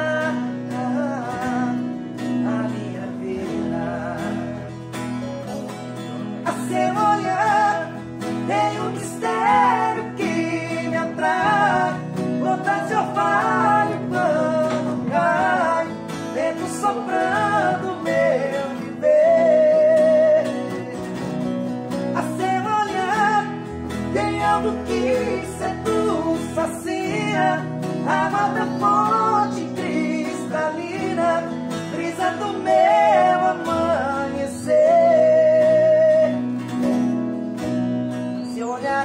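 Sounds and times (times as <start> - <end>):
man singing: 0.0 - 5.1, 6.4 - 37.0, 38.4 - 39.0
acoustic guitars strummed: 0.0 - 39.0.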